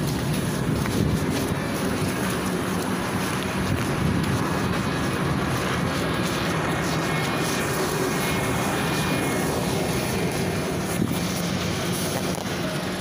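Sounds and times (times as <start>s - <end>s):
bus engine running: 0.0s - 13.0s.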